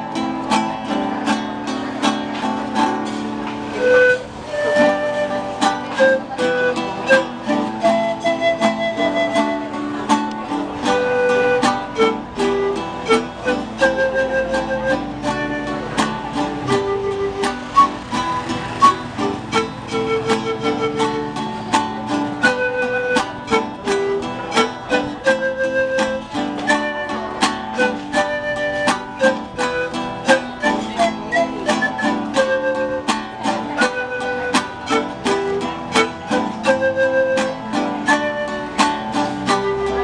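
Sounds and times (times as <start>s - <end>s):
guitars strumming: 0.0s - 40.0s
picked string melody: 0.0s - 40.0s.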